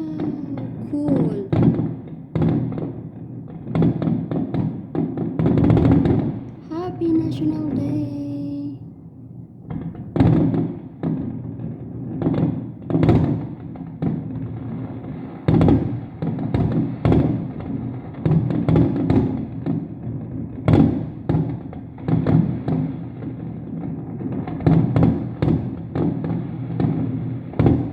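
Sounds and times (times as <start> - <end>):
fireworks bangs with echoes: 0.0 - 8.8, 9.6 - 27.9.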